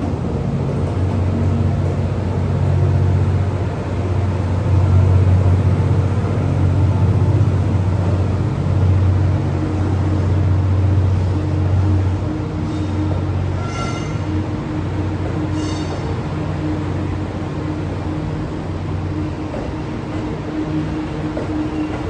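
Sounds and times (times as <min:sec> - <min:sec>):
passenger train hum: 0:00.0 - 0:22.0.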